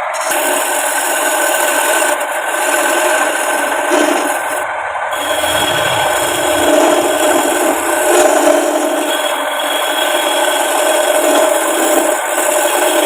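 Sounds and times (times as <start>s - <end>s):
lathe continuous tone: 0.0s - 13.0s
wood rasping against tool: 0.1s - 4.6s, 5.2s - 13.0s.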